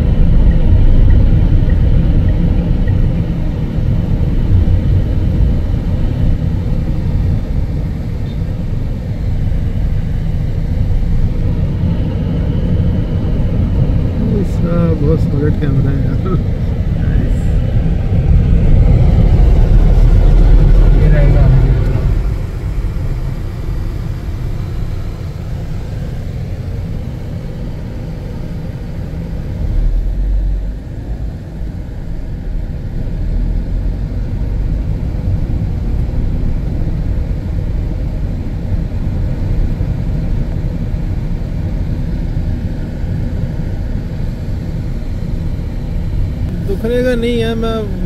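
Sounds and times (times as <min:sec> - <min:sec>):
moving vehicle rumble: 0:00.0 - 0:48.0.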